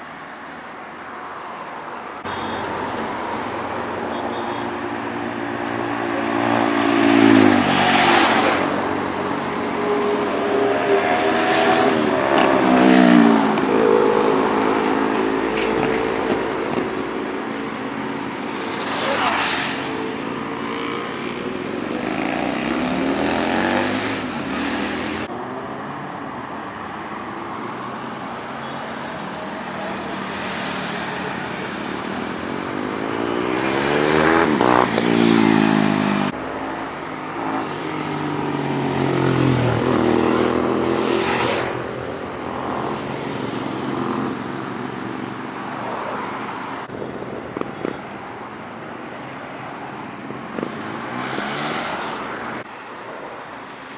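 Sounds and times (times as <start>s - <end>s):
traffic noise: 0.0s - 53.9s
motorcycles passing by: 1.2s - 52.9s.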